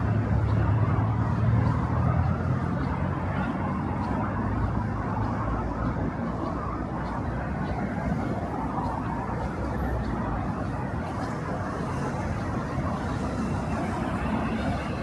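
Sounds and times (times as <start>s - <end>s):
city noise: 0.0s - 15.0s.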